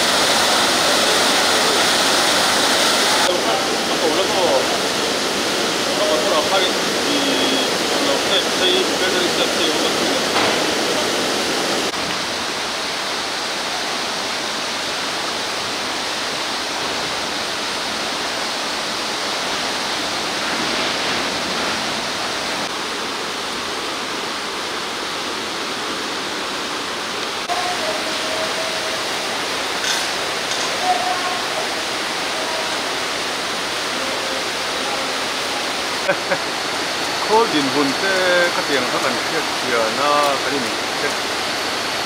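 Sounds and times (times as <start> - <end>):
water spilling over weir: 0.0 - 22.8, 27.4 - 42.0
river rushing and churning: 0.0 - 42.0.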